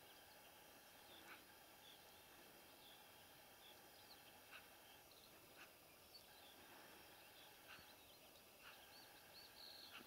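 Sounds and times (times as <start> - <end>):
faint high bird chirps: 0.0 - 10.0.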